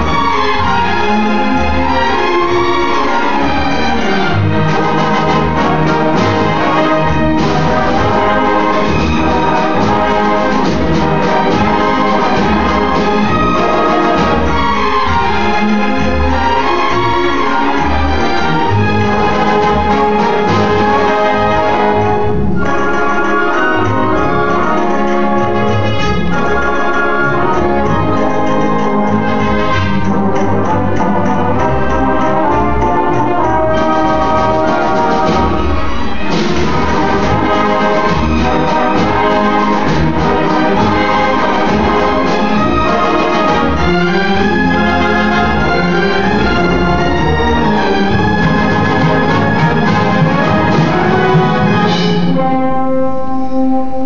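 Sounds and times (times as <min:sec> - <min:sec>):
orchestra strings playing: 0:00.0 - 0:54.0.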